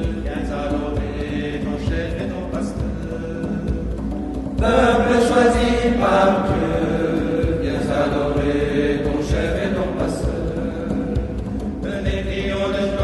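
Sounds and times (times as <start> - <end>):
voices chanting a hymn: 0.0 - 13.0.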